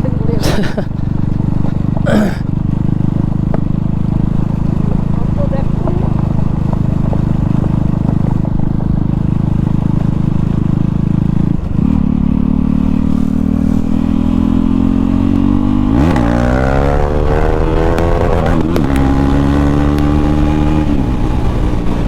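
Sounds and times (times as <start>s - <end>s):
loud motorcycle engine revving: 0.0s - 22.0s.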